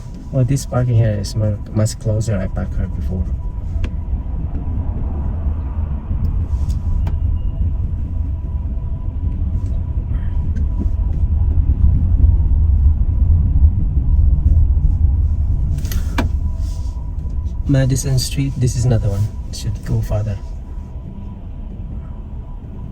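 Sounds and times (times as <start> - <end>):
car road and engine rumble: 0.0 - 22.9.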